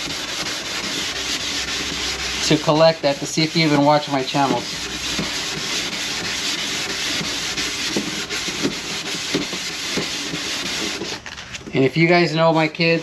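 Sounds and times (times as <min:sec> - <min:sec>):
hand sanding scuffing strokes: 0:00.0 - 0:13.0.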